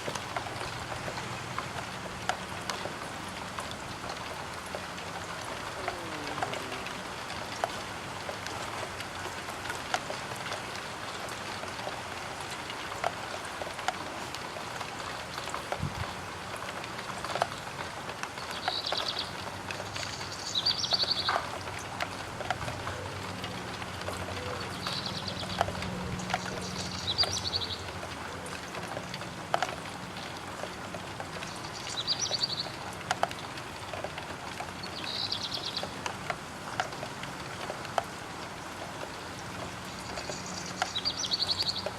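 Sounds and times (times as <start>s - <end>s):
rain pattering on a window: 0.0s - 41.9s.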